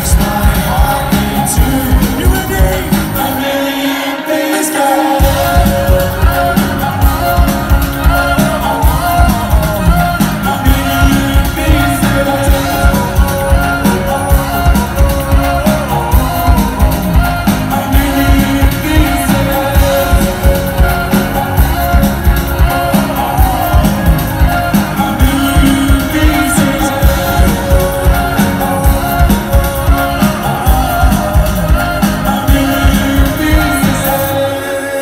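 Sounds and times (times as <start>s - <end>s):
heavy steady beat: 0.0s - 3.5s, 5.2s - 34.4s
live band music: 0.0s - 35.0s.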